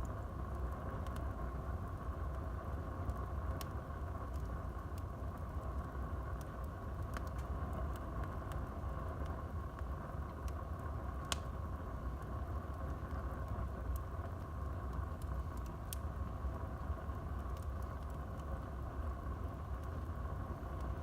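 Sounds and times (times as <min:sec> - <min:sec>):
burning wood crackling and popping: 0:00.0 - 0:21.0
low rumble of flames: 0:00.0 - 0:21.0.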